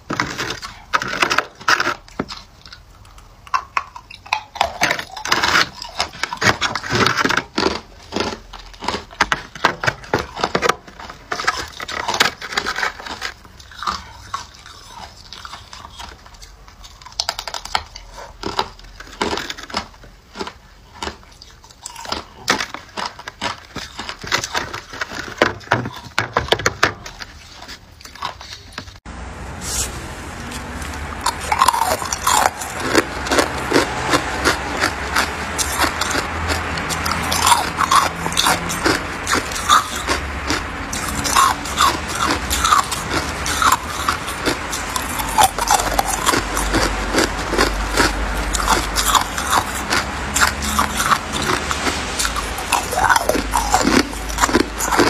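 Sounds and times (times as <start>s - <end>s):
ice crunching between teeth: 0.0s - 29.0s, 30.4s - 55.0s.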